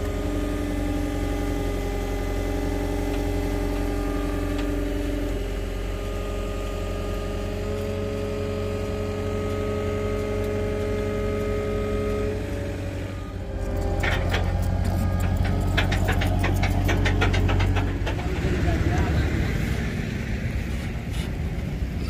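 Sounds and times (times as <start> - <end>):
hydraulic whining tones: 0.0 - 19.8
loader engine running: 0.0 - 22.0.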